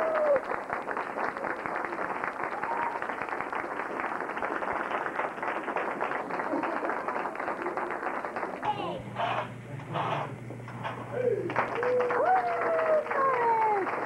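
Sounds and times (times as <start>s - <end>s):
audience applauding: 0.0s - 10.3s, 10.9s - 14.0s.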